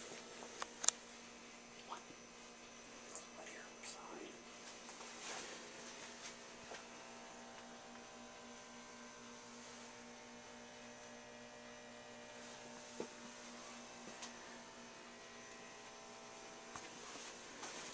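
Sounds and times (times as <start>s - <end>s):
faint mains hum: 0.0s - 17.9s.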